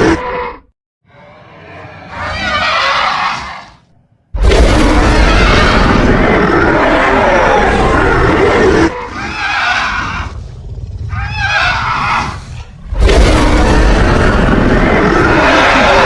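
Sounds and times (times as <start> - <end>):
creature roaring: 0.0 - 16.0
wavering creature calls: 0.0 - 16.0.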